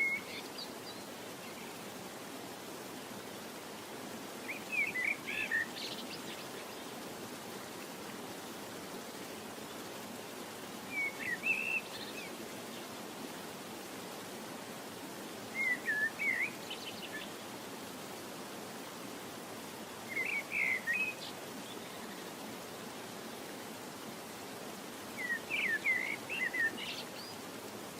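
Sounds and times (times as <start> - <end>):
steady background hiss: 0.0 - 27.9.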